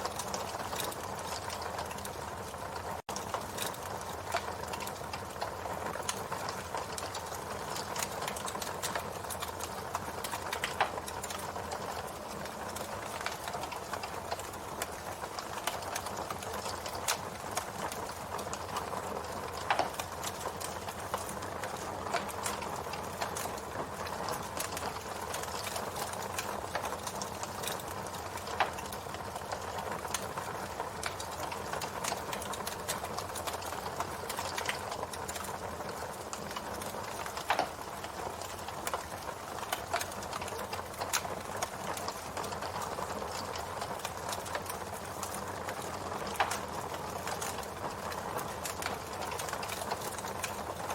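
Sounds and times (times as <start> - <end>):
campfire crackling: 0.0 - 50.9
fire pops: 0.1 - 2.2, 3.2 - 50.9.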